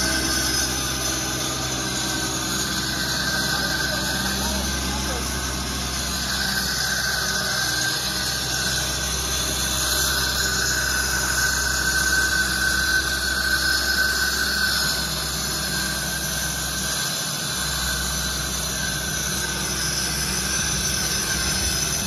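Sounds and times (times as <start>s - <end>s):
diesel engine under load: 0.0s - 22.0s
high hydraulic whine: 0.0s - 22.0s.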